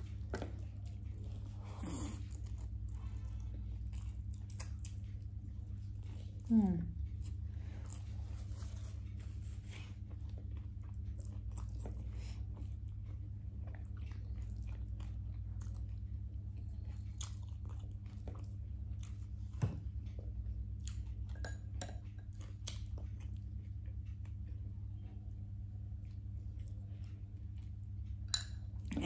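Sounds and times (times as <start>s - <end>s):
person chewing food: 0.0s - 28.9s
steady low hum: 0.0s - 29.0s.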